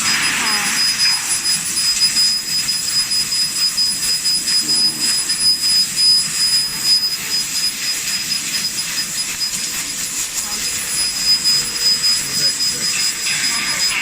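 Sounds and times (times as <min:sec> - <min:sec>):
laser cutting machine hissing: 0:00.0 - 0:14.0
thin high whine: 0:00.0 - 0:14.0.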